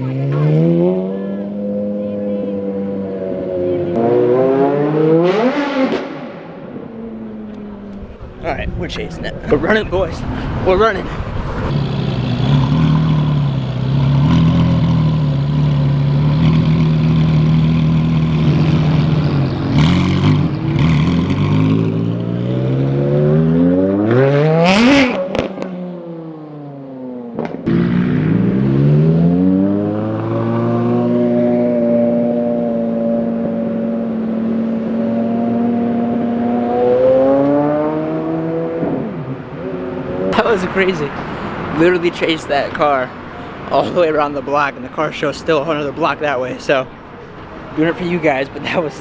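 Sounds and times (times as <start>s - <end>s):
car engine revving: 0.0s - 46.8s.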